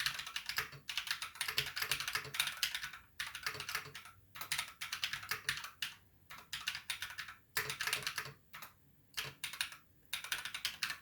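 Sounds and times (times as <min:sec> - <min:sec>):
typing on mechanical keyboard: 0:00.0 - 0:11.0.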